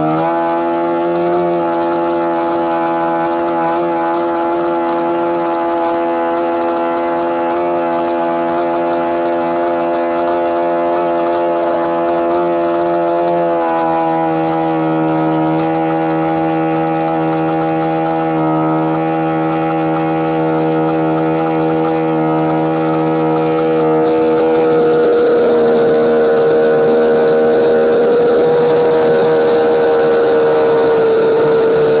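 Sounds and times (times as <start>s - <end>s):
model aircraft engine running: 0.0s - 32.0s.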